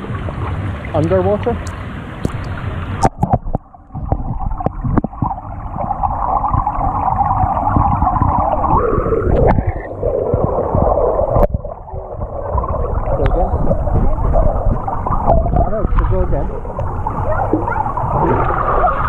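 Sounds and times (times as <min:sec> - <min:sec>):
underwater rush of water: 0:00.0 - 0:19.0.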